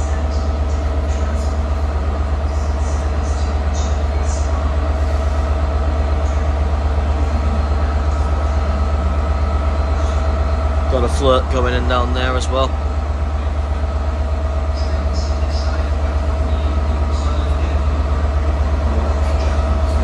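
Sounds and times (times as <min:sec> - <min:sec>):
diesel locomotive idling: 0:00.0 - 0:20.0.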